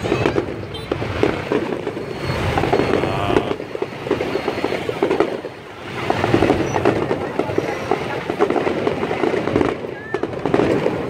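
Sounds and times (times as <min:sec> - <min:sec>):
fireworks popping and crackling: 0:00.0 - 0:11.0
motorbikes passing: 0:00.0 - 0:11.0.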